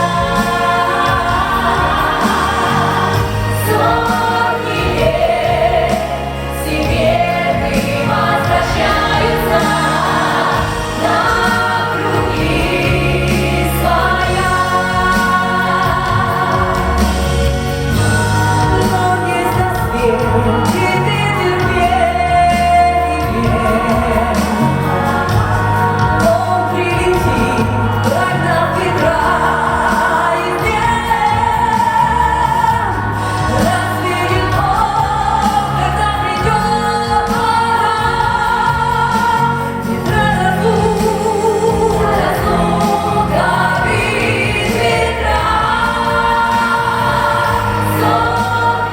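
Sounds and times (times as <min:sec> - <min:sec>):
instrumental backing with bass line: 0:00.0 - 0:48.9
vocal ensemble singing: 0:00.0 - 0:48.9.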